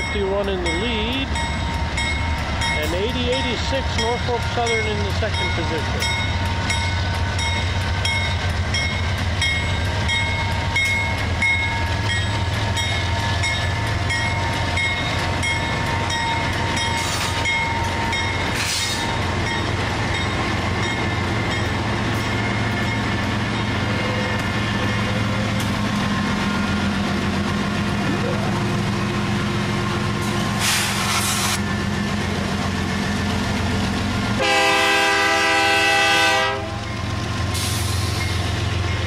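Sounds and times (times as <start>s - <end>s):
locomotive bell ringing: 0.0s - 27.5s, 31.6s - 39.0s
diesel locomotives rumbling past: 0.0s - 39.0s.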